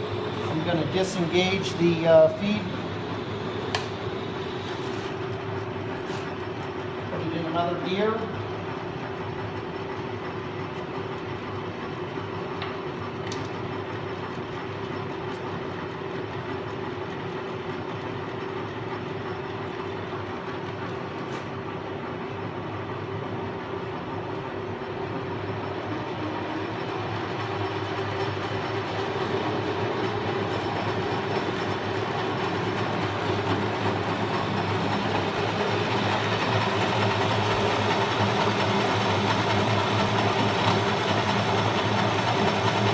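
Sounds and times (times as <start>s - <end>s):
metal lathe running: 0.0s - 42.9s.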